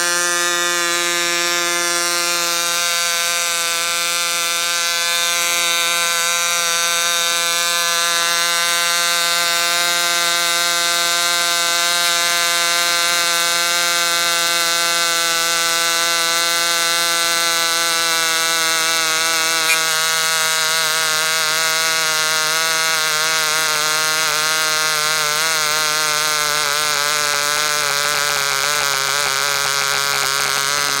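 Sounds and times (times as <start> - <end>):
model engine buzzing: 0.0 - 31.0.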